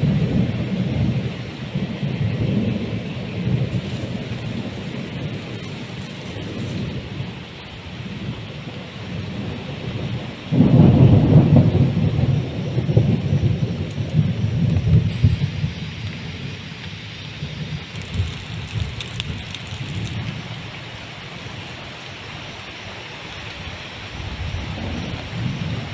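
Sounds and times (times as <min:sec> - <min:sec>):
thunder rumbling: 0:00.0 - 0:20.8, 0:24.1 - 0:25.9
heavy rain falling: 0:00.0 - 0:25.9.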